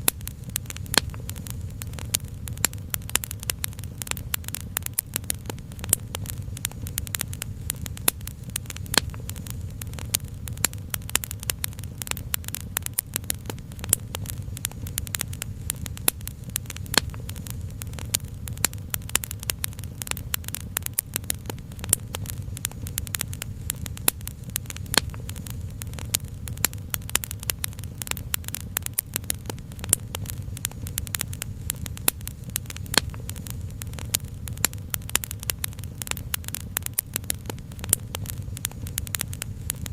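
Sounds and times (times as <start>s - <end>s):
low rumble: 0.0s - 28.6s, 29.3s - 36.6s
wood fire crackling: 0.0s - 39.9s.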